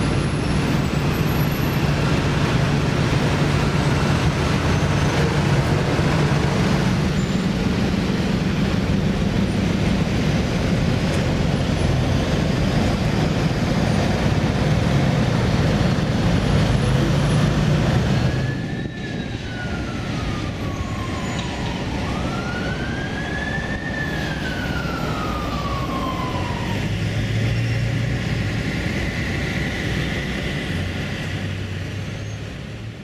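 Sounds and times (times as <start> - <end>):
emergency siren wailing: 0.0 - 31.8
street traffic: 0.0 - 33.0.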